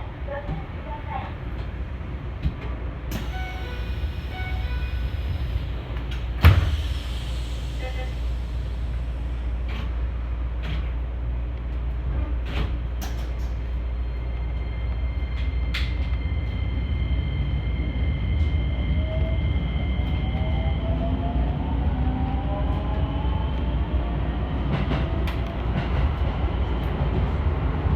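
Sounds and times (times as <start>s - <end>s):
electric train rumble: 0.0s - 27.9s.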